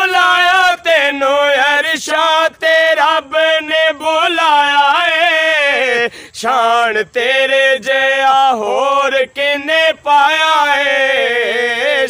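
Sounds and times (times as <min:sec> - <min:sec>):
men singing unaccompanied: 0:00.0 - 0:12.0.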